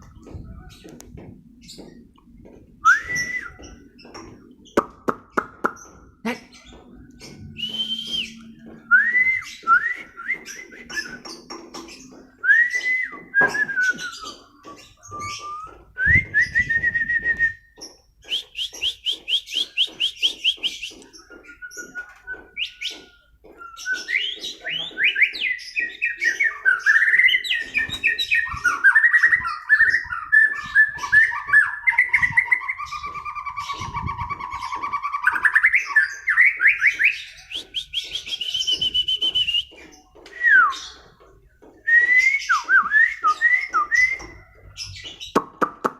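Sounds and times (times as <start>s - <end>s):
songbird singing whistled notes: 2.8s - 6.0s, 6.6s - 45.4s.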